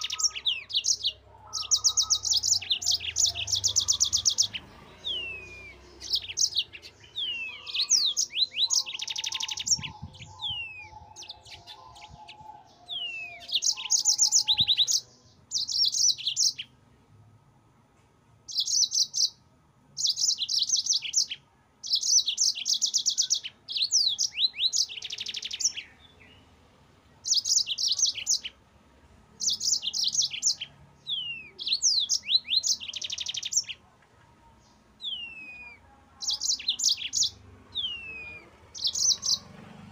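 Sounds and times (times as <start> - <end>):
canary singing trills: 0.0 - 16.8, 18.5 - 28.6, 29.3 - 39.9.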